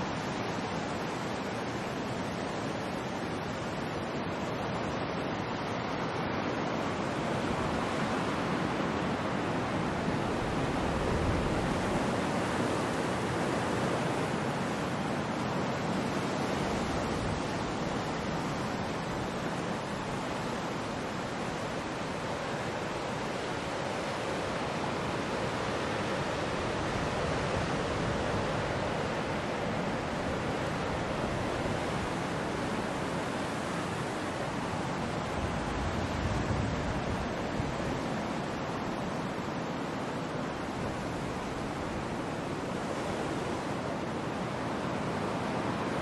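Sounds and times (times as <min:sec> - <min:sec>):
ocean waves washing in: 0:00.0 - 0:46.0.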